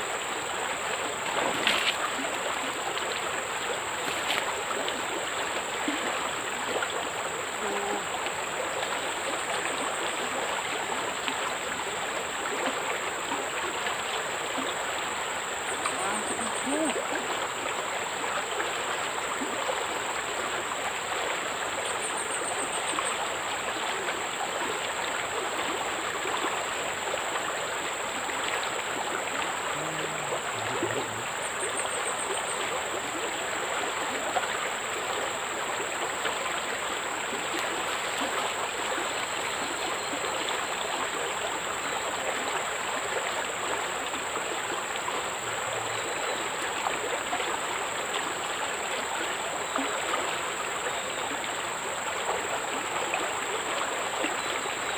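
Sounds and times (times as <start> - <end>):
flowing water rushing: 0.0 - 54.9.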